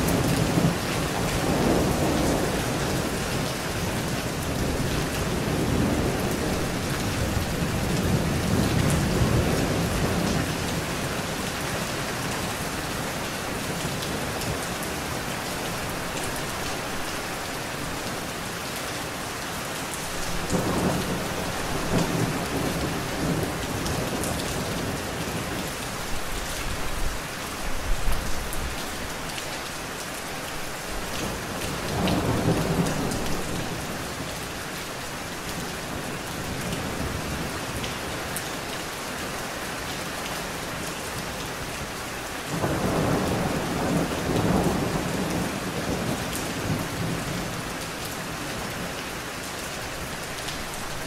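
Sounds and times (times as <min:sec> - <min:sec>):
rain on a wet surface: 0:00.0 - 0:51.0.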